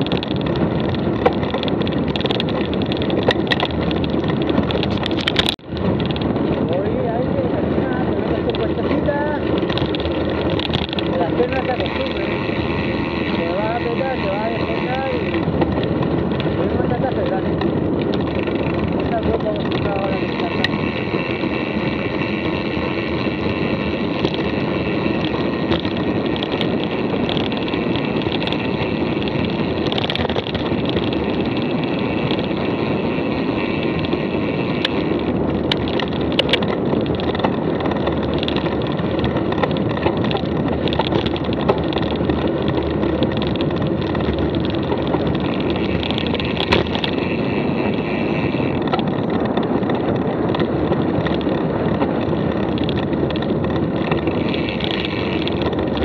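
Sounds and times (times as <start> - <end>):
bike clicks and rattles: 0.0 - 56.0
bike tyres rolling: 0.0 - 56.0.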